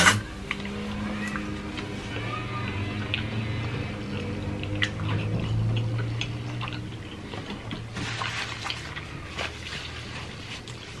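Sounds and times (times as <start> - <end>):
low steady hum: 0.0 - 11.0
wet chewing: 0.4 - 11.0.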